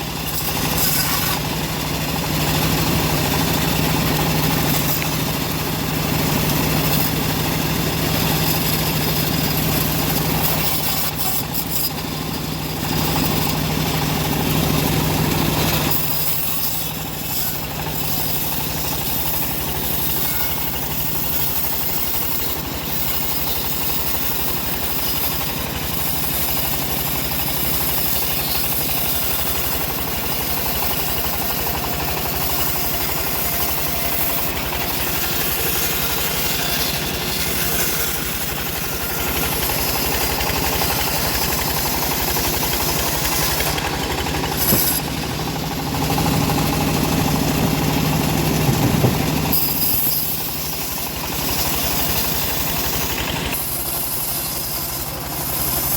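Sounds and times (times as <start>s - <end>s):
band saw cutting wood: 0.0s - 55.9s.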